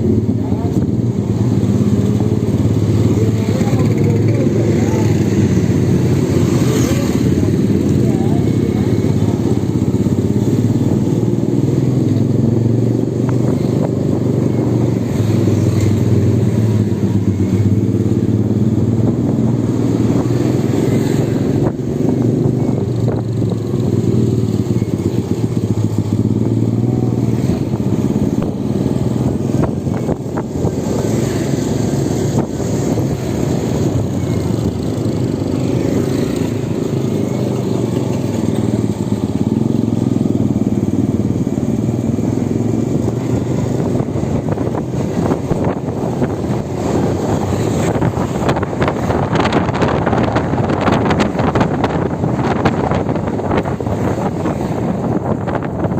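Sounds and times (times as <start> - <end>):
electric motorbike rumble: 0.0 - 55.9.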